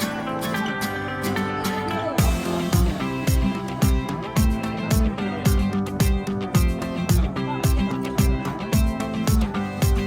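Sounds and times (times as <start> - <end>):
background music with guitar: 0.0 - 10.0.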